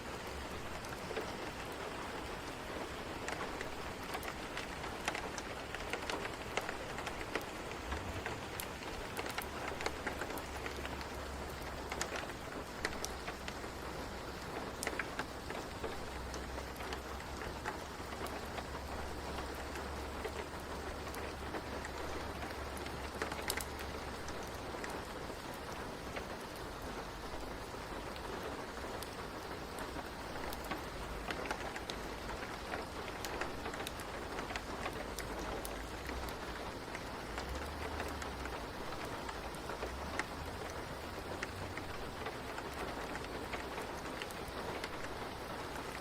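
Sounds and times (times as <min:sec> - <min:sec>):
sharp crackles and pops: 0:00.0 - 0:46.0
steady rain: 0:00.0 - 0:46.0.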